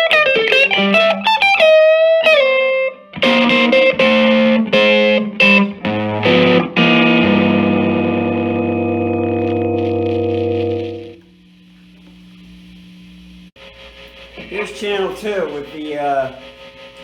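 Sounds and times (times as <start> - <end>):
electric guitar chords: 0.0 - 14.5
electric guitar lead lines: 0.0 - 15.2.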